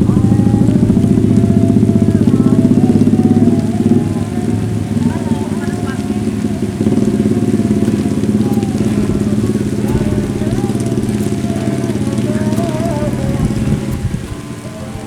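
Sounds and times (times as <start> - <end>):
engine running: 0.0 - 15.0
faint wavering voice: 0.0 - 15.0.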